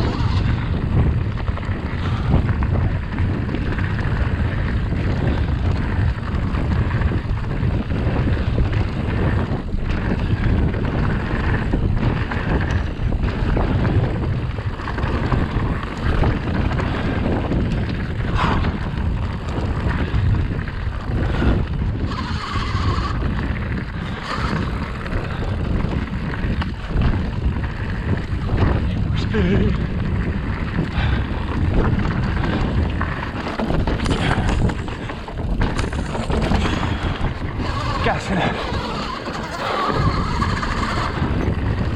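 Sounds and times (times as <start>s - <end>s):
bike knocks and rattles: 0.0s - 38.0s
bike tyre noise: 0.0s - 41.9s
wind buffeting microphone: 0.0s - 41.9s.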